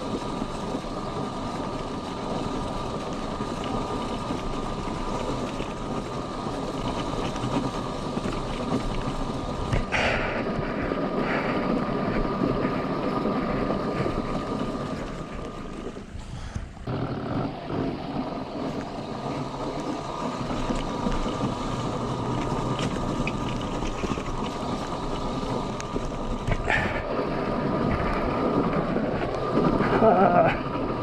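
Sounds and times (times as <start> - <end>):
wind and tyre noise: 0.0 - 31.0.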